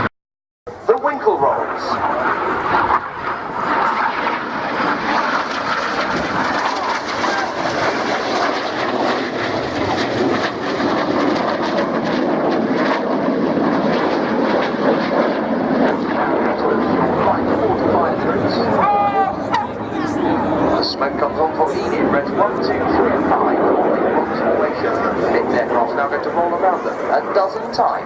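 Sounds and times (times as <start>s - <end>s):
jet noise: 0.7s - 28.0s.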